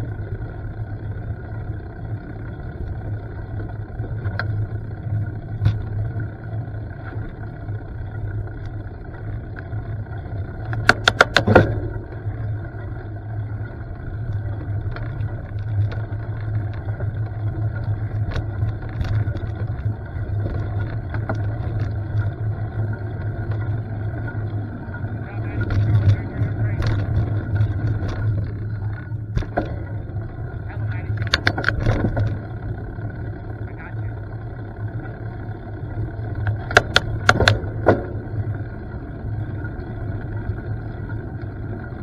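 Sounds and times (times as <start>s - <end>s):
bike rattling over bumps: 0.0s - 42.0s
bike rolling on dirt trail: 0.0s - 42.0s.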